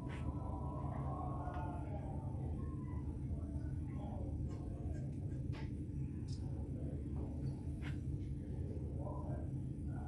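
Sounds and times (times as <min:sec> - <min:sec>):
faint indistinct voices: 0:00.0 - 0:10.0
low steady hum: 0:00.0 - 0:10.0.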